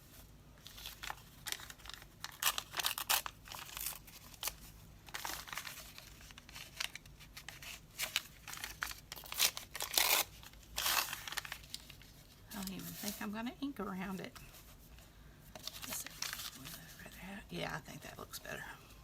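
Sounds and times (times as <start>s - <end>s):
paper rustling and crinkling: 0.0s - 17.2s.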